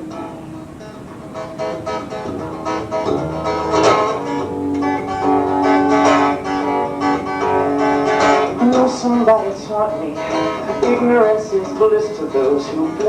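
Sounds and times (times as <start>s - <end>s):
guitar playing chords: 0.0s - 13.0s.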